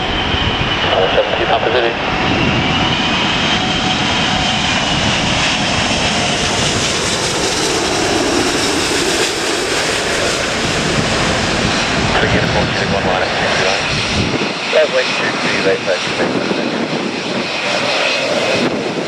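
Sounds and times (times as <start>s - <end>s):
jet engine high whine: 0.0s - 19.0s
jet engines rushing overhead: 0.0s - 19.0s.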